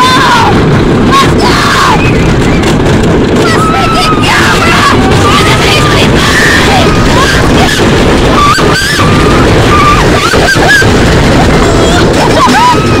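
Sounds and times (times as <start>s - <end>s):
roller coaster rattling: 0.0s - 13.0s
wind roaring over microphone: 0.0s - 13.0s.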